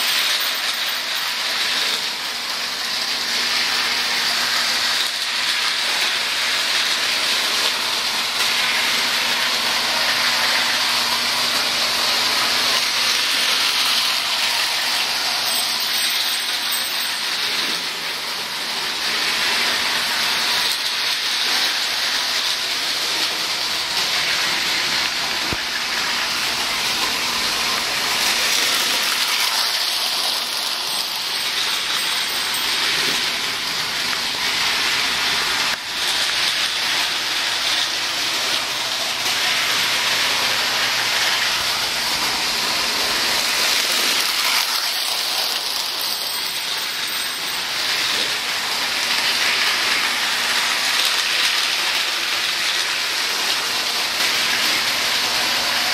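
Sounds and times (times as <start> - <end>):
toy trains whirring on track: 0.0 - 55.9.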